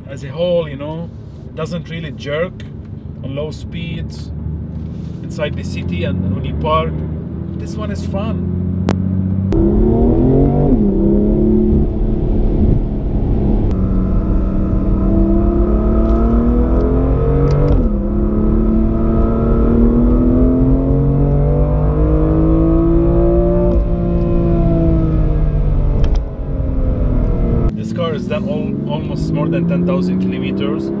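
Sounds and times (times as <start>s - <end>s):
car engine accelerating hard: 5.6s - 31.0s.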